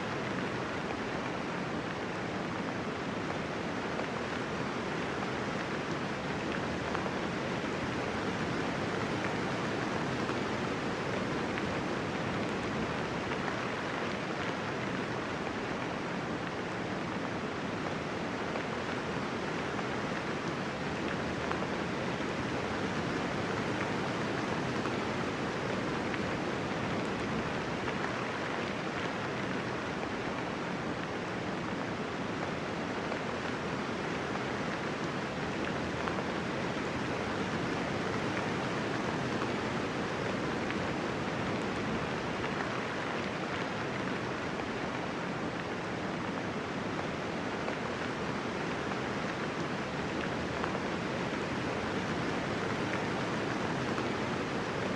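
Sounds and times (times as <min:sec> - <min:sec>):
gentle rainfall: 0:00.0 - 0:54.9.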